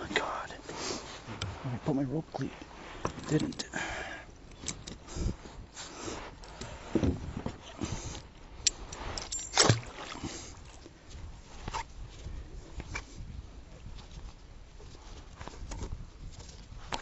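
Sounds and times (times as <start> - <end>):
rustles: 0.0 - 17.0.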